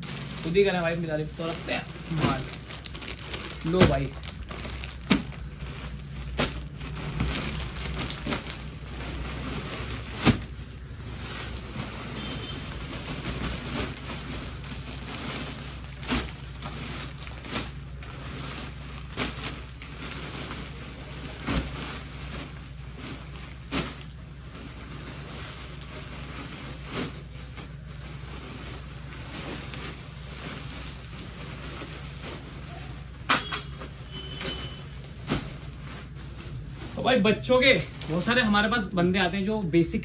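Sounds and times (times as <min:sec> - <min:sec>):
plastic packaging rustling: 0:00.0 - 0:40.0.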